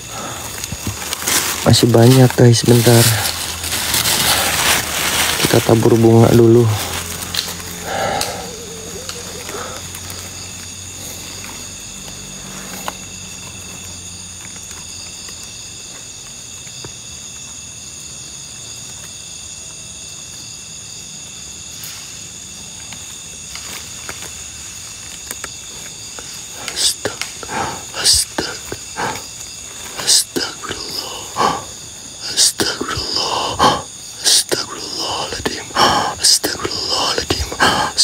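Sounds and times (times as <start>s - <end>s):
night insects buzzing: 0.0s - 38.0s.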